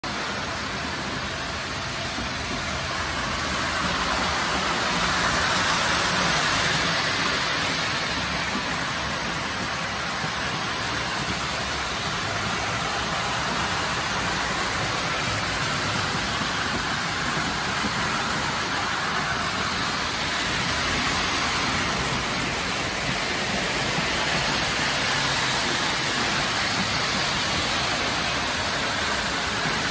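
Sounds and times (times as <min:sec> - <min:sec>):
model trains whirring on track: 0:00.0 - 0:29.9.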